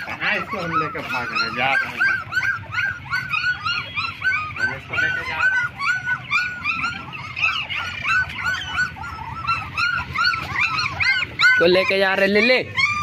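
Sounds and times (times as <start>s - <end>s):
puppy whimpering: 0.0s - 13.0s.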